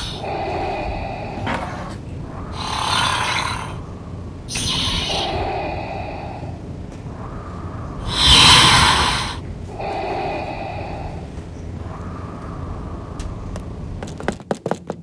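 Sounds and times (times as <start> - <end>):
mechanical respirator breathing: 0.0 - 13.6.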